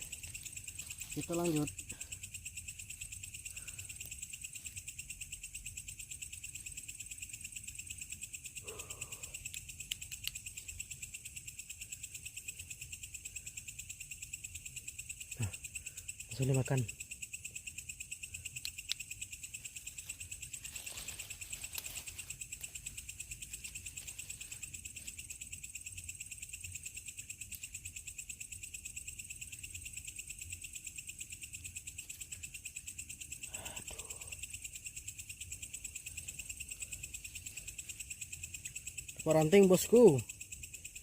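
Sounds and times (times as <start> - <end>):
crickets chirring: 0.0 - 41.0.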